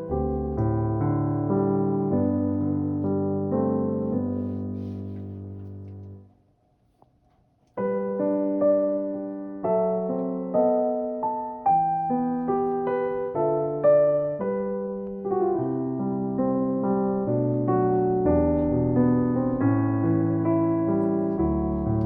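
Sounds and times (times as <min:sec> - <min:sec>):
gentle solo piano melody: 0:00.0 - 0:06.3, 0:07.8 - 0:22.0.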